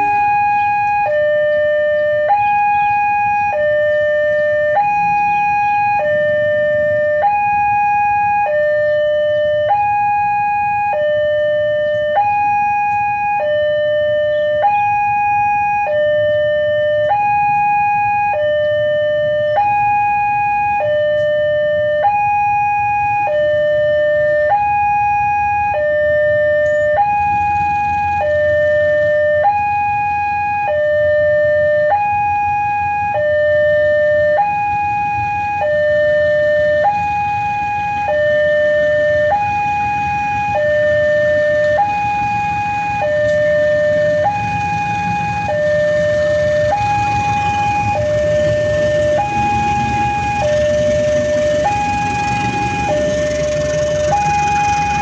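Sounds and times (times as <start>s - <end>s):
level crossing two-tone alarm: 0.0s - 55.0s.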